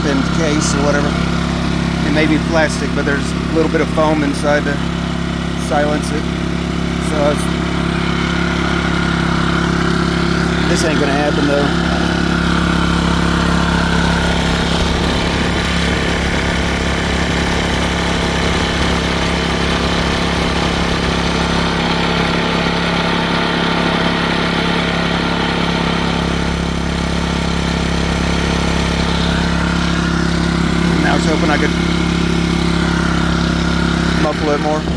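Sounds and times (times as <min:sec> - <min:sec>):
generator engine running: 0:00.0 - 0:34.9.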